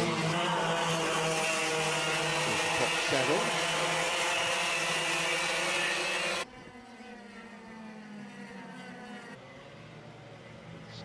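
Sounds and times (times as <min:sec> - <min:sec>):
kart engines running: 0:00.0 - 0:11.0.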